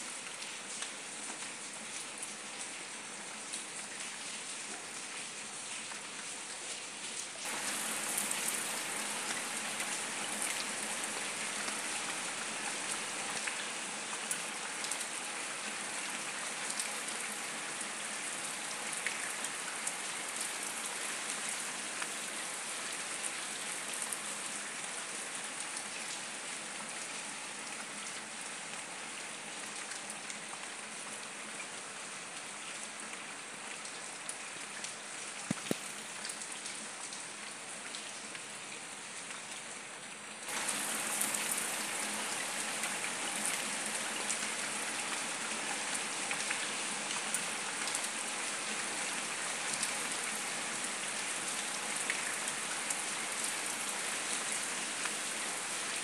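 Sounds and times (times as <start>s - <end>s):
rain on paving and leaves: 0.0s - 56.0s.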